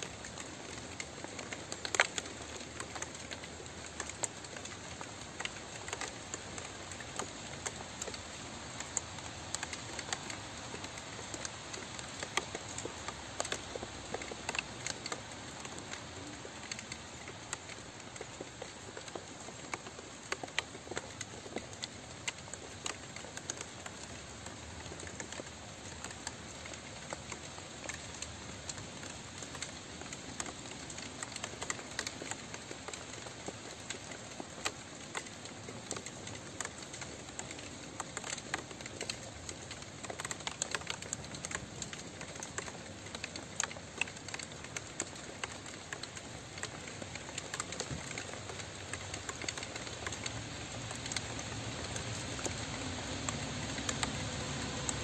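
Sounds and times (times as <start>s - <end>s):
rain drops ticking on a surface: 0.0s - 55.0s.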